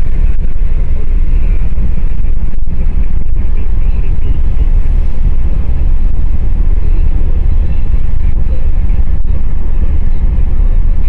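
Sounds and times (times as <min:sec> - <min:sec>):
car road and wind rumble: 0:00.0 - 0:11.0.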